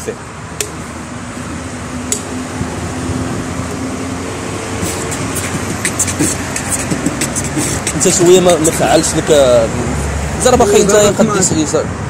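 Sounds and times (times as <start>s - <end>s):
engine hum: 0.0s - 12.0s
rumble of passing vehicles: 0.0s - 12.0s.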